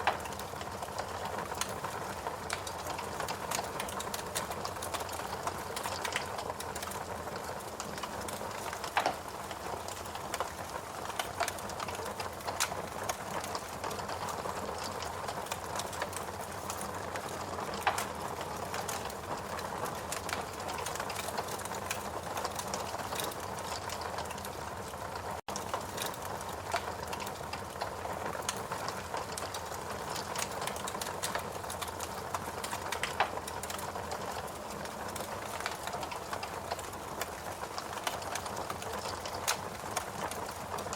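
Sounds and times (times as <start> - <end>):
fireplace crackling and popping: 0.0 - 40.9.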